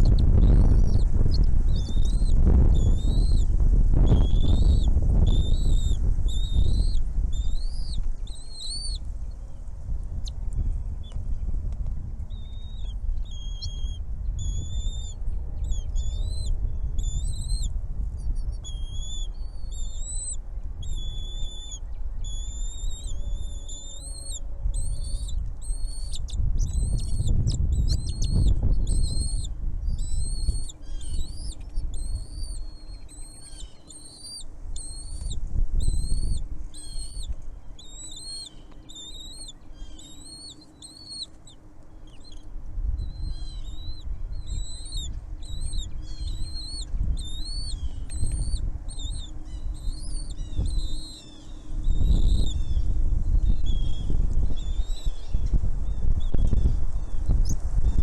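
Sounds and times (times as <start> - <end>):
small bird calling: 0.0 - 11.5, 12.2 - 58.0
low rumbling noise: 0.0 - 58.0.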